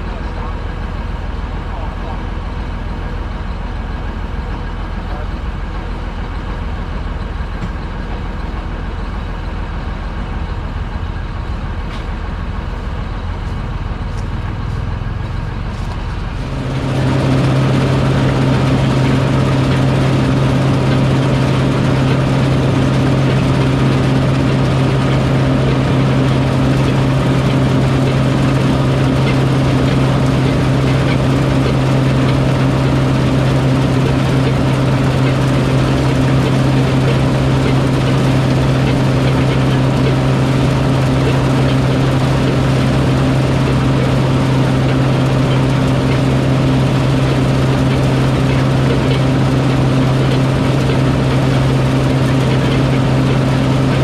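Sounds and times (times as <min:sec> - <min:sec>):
farm machine engine running: 0:00.0 - 0:54.0.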